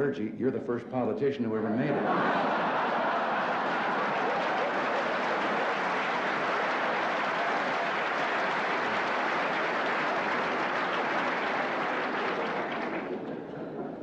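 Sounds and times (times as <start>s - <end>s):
audience laughing: 1.7s - 14.0s
audience applauding: 2.0s - 13.6s.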